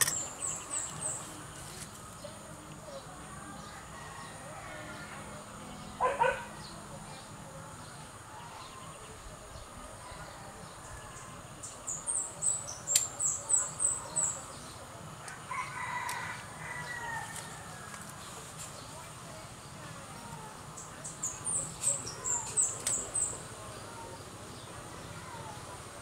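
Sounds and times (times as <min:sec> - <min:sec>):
birds chirping: 0:00.0 - 0:26.0
outdoor background noise: 0:00.0 - 0:26.0.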